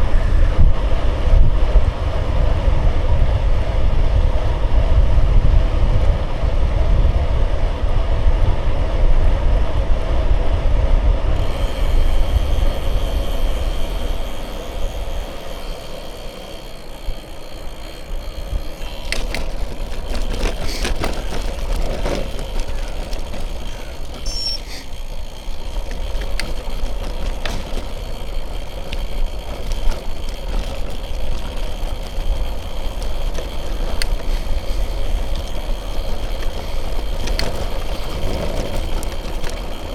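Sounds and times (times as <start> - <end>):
wind buffeting microphone: 0.0 - 39.9
tyres rolling on road: 0.7 - 39.9
bike clicks and rattles: 0.9 - 9.7, 11.3 - 39.9.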